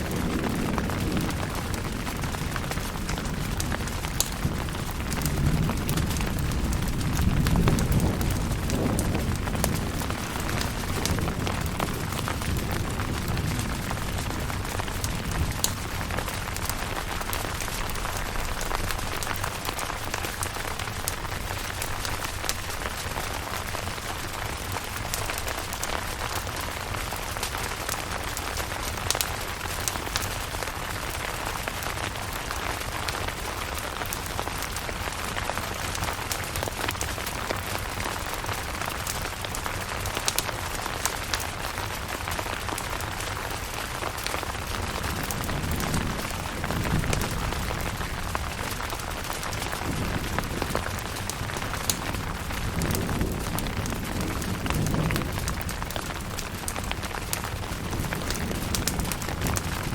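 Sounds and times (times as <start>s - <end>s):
rain falling on a tent: 0.0s - 59.9s.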